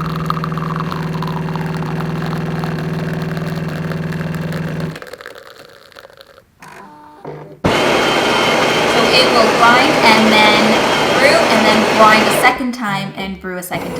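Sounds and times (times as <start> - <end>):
coffee grinder grinding: 0.0 - 6.7, 7.7 - 12.6.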